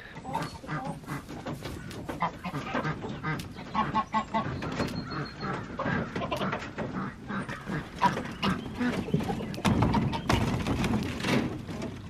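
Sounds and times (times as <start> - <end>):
geese honking: 0.0 - 10.8
footsteps: 0.4 - 12.0.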